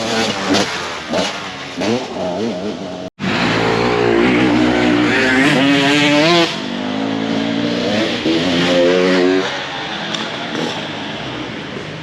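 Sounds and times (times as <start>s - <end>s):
motocross bike engine revving: 0.0s - 10.8s.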